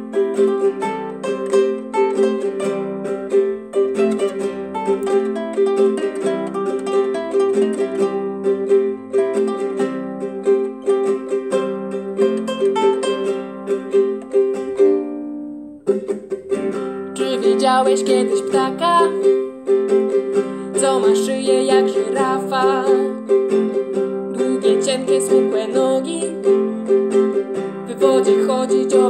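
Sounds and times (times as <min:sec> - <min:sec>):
guitalele strumming: 0:00.0 - 0:29.0.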